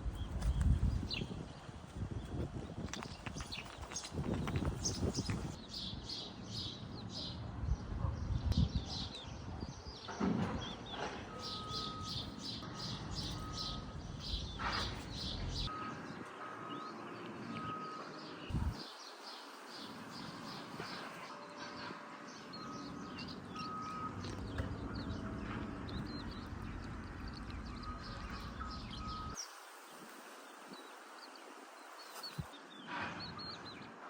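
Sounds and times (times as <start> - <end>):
small birds chirping: 0.0 - 21.6, 22.2 - 34.0.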